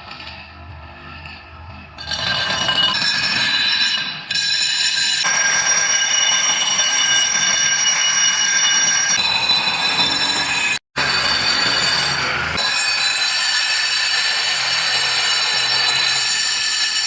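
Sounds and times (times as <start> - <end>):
power tool grinding metal: 2.0 - 17.0.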